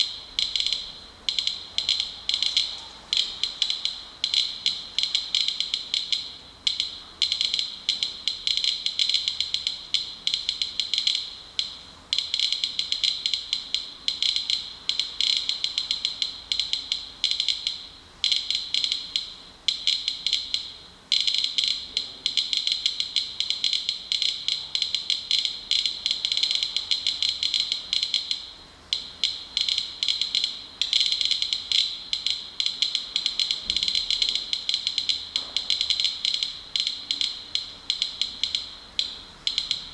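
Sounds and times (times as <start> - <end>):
geiger counter clicking: 0.0 - 39.9.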